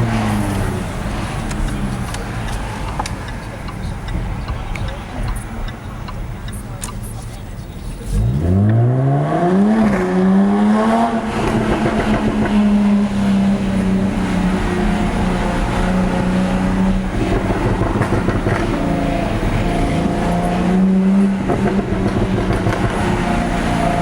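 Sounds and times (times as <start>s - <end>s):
car engine accelerating hard: 0.0s - 5.7s, 8.0s - 24.0s.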